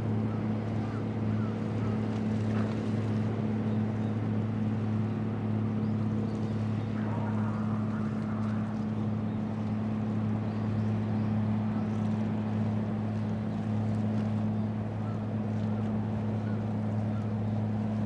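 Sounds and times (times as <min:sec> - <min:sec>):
ship diesel engines droning: 0:00.0 - 0:18.0.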